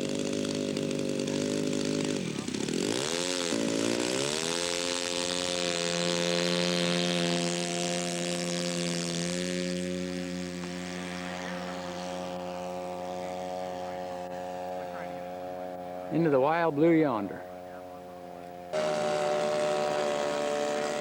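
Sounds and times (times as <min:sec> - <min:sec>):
model airplane engine running: 0:00.0 - 0:21.0.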